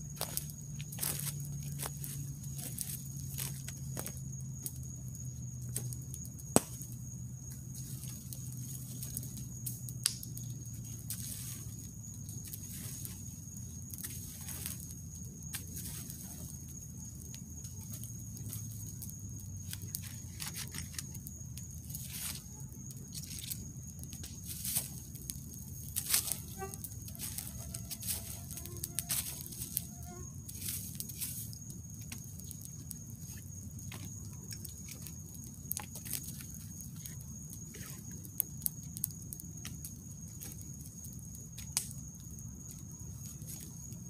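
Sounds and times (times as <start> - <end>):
campfire crackling: 0.0 - 44.0
fire snaps and pops: 0.0 - 44.0.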